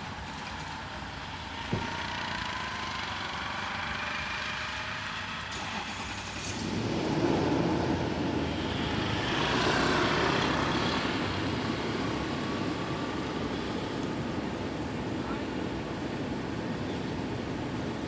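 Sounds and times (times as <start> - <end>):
motor vehicle passing: 1.6 - 18.0.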